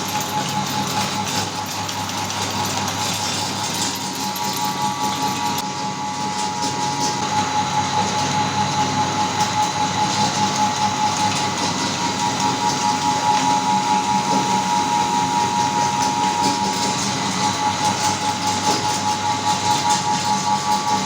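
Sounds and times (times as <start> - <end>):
meat grinder whining and grinding: 0.0 - 21.0.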